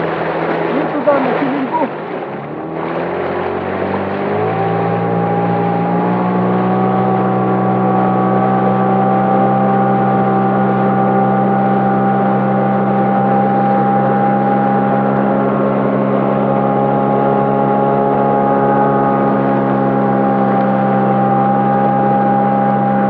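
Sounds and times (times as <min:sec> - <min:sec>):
motorboat engine: 0:00.0 - 0:23.0.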